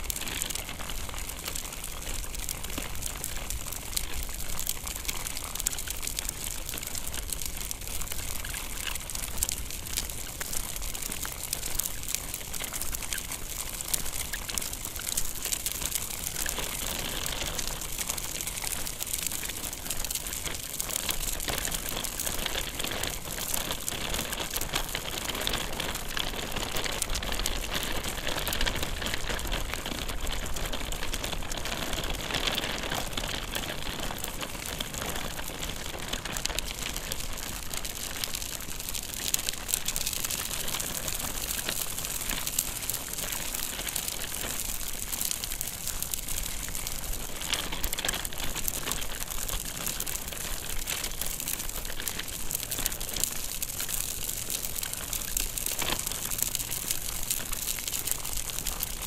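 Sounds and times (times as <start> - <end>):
stroller wheels rolling: 0.0 - 59.0.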